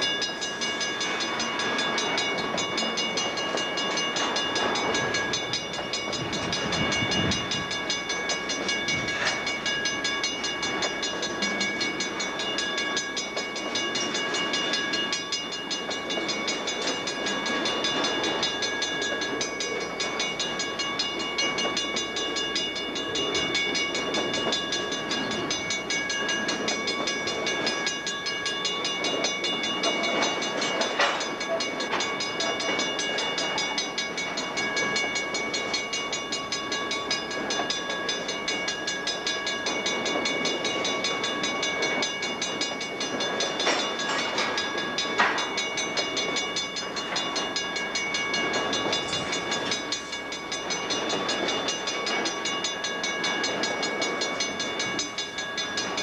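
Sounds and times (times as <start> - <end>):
steady high tone: 0.0 - 56.0
train wheels rumbling and rattling: 0.0 - 56.0.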